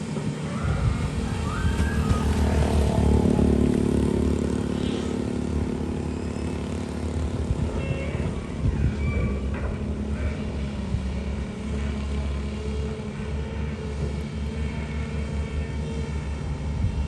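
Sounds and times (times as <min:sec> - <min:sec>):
excavator diesel engines rumbling: 0:00.0 - 0:17.0.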